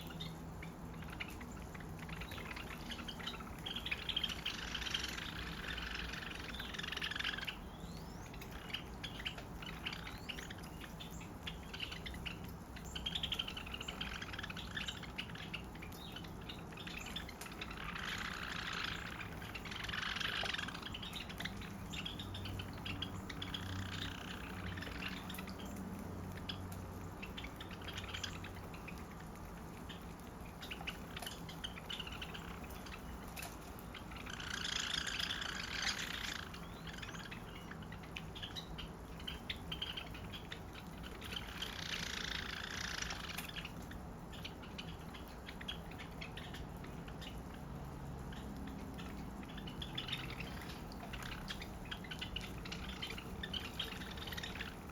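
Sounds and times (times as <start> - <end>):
sparrows chirping: 0.0 - 54.9.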